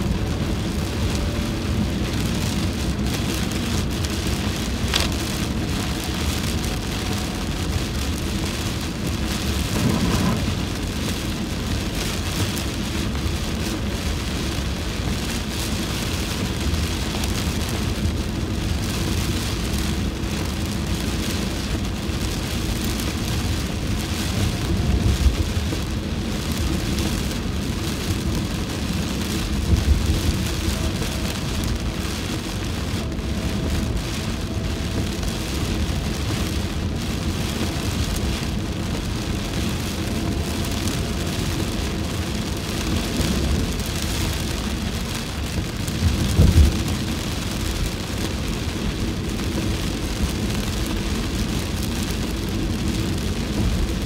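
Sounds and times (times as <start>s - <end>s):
heavy rain on car roof: 0.0s - 54.0s
road rumble: 0.0s - 54.0s.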